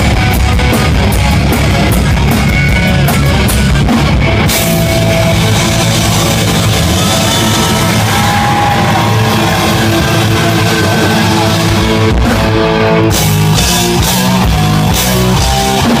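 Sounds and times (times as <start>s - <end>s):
hard rock band playing: 0.0s - 16.0s.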